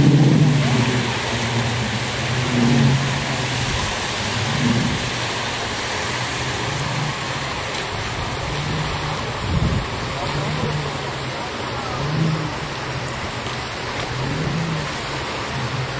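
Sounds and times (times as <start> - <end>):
outboard engines humming: 0.0 - 15.9.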